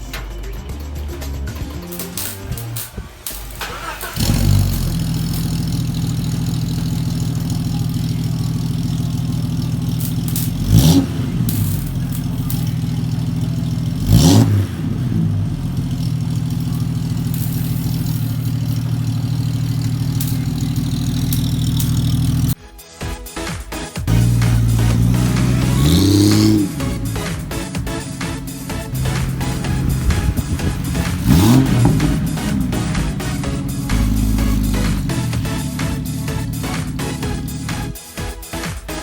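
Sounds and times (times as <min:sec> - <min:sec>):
car engine idling and revving: 0:00.0 - 0:22.6, 0:24.0 - 0:39.0.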